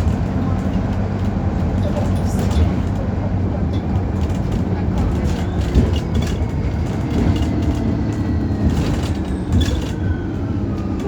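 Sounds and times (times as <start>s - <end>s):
light rattles and clicks: 0.0s - 10.1s
bus engine rumbling: 0.0s - 11.0s.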